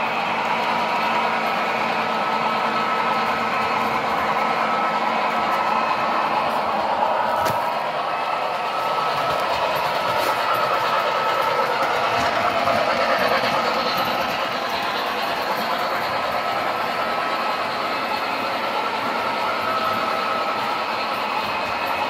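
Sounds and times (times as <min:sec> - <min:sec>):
metal wheels rolling on rails: 0:00.0 - 0:22.0
model train motor whine: 0:00.0 - 0:22.0.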